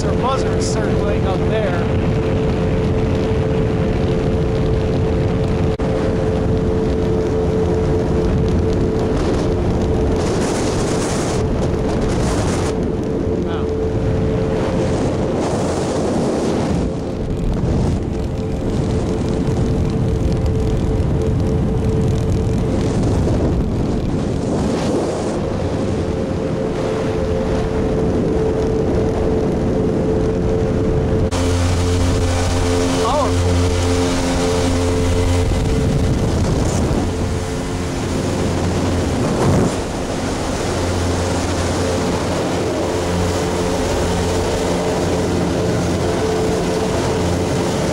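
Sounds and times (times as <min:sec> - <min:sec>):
low rumble of wind and water: 0:00.0 - 0:47.9
motorboat engine running: 0:00.0 - 0:47.9.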